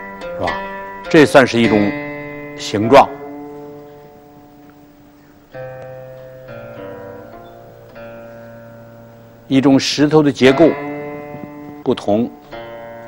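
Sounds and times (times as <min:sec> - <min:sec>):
plucked string instrument notes: 0:00.0 - 0:13.0.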